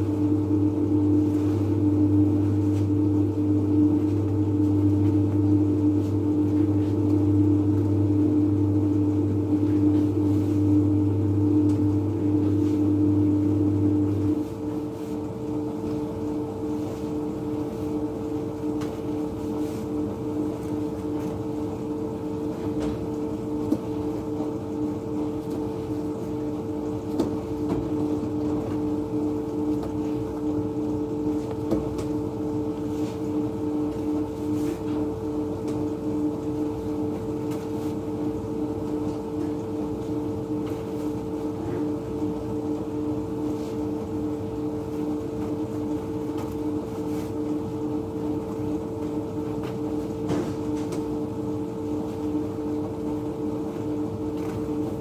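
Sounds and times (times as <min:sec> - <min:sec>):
bakery machinery humming: 0:00.0 - 0:55.0.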